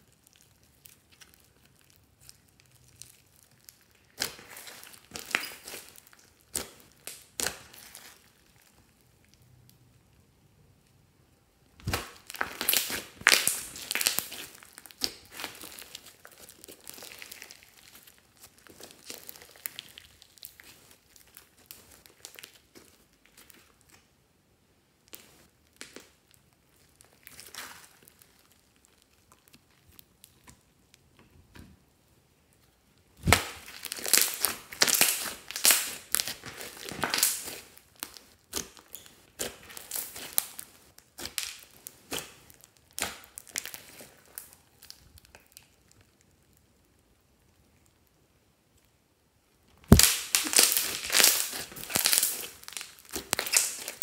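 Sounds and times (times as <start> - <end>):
slime crackling and popping: 0.0 - 10.2, 11.7 - 24.1, 25.1 - 31.2, 33.0 - 48.1, 49.6 - 54.0.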